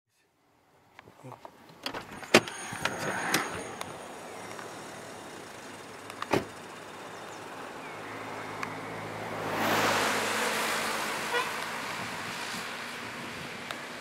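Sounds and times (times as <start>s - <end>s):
car engine and road noise: 0.4s - 14.0s.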